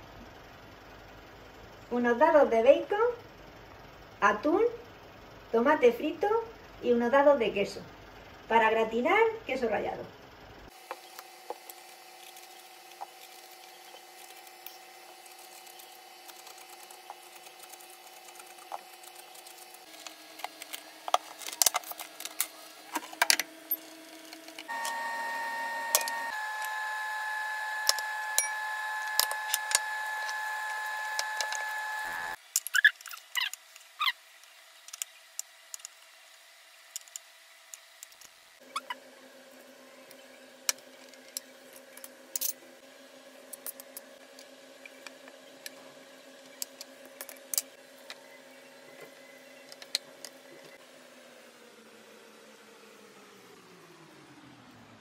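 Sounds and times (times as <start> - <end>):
appliance hum: 0.0 - 55.0.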